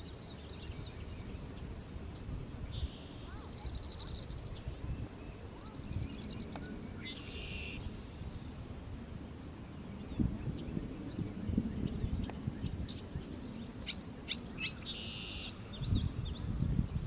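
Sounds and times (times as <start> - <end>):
swallow twittering song: 0.0 - 17.0.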